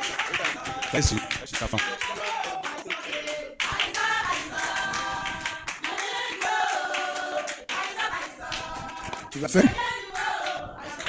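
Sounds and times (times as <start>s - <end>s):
congregation singing: 0.0s - 11.0s
hand clapping: 0.0s - 11.0s.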